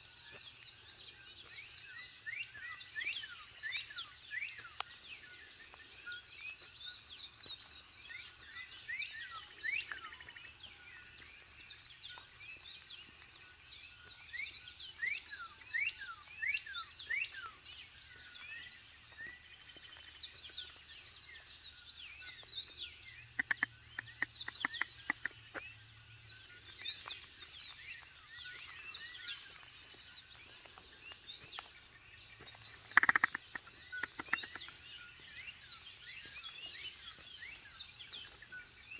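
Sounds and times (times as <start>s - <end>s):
birds chirping in chorus: 0.0s - 38.9s.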